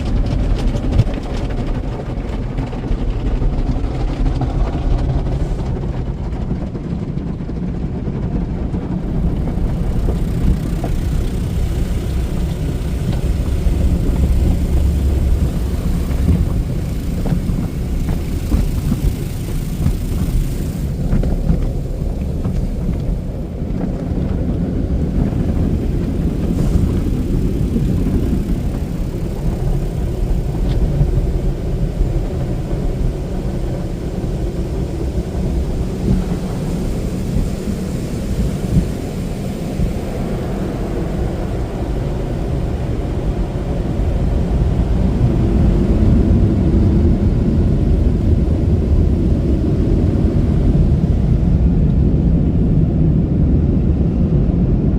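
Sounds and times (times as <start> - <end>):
washing gear rumbling: 0.0 - 52.2
car wash water spraying: 0.0 - 52.8.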